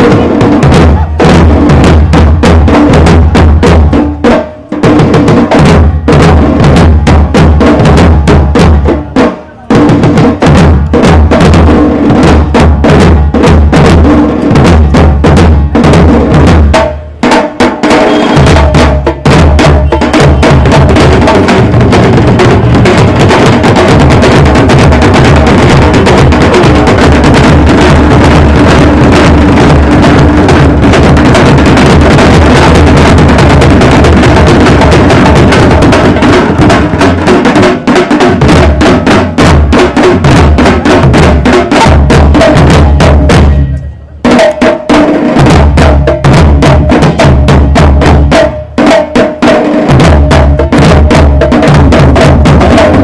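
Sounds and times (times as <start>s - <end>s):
barrel drums playing: 0.0s - 53.0s.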